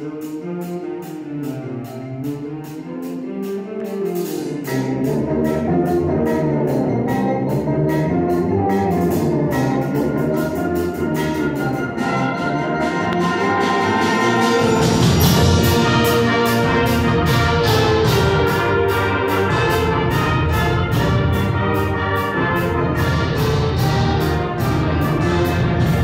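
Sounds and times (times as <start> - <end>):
concert band playing brass piece: 0.0 - 26.0
steady percussion beat: 3.5 - 26.0.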